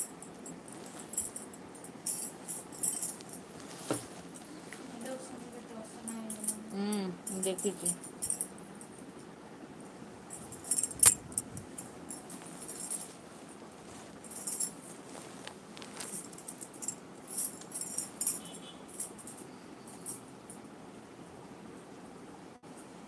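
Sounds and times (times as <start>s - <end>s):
light metallic jingling: 0.0s - 9.0s, 10.3s - 20.6s.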